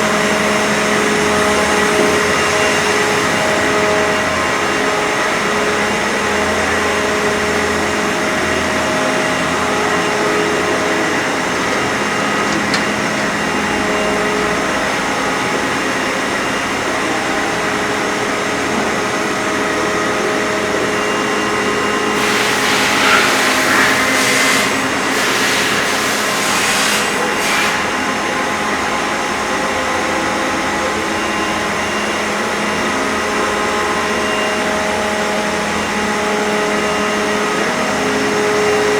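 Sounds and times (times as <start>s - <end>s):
cnc machine whirring: 0.0s - 38.9s.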